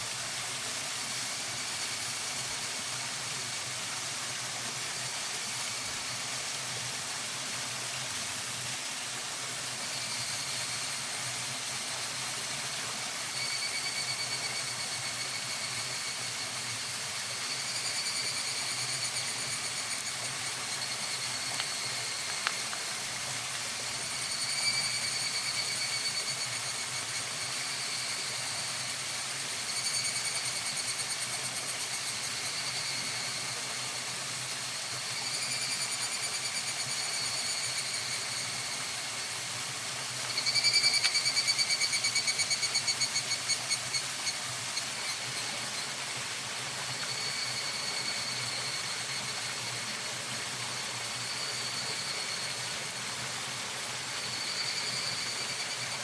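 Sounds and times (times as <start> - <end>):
cicadas singing: 0.0 - 56.0
steady high hiss: 0.0 - 56.0.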